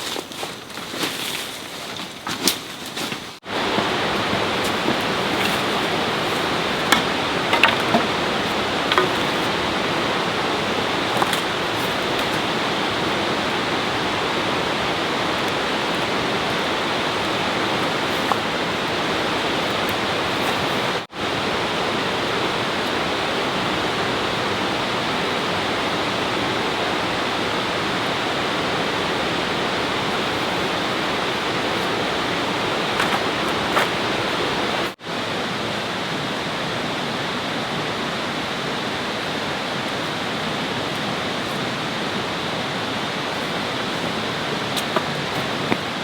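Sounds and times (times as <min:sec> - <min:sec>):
flowing water rushing: 0:03.4 - 0:46.0.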